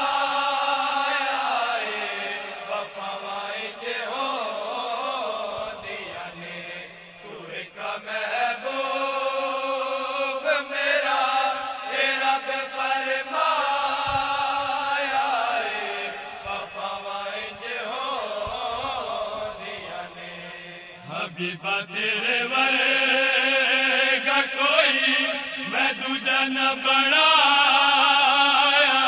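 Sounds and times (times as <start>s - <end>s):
male voices chanting drone: 0.0s - 29.0s.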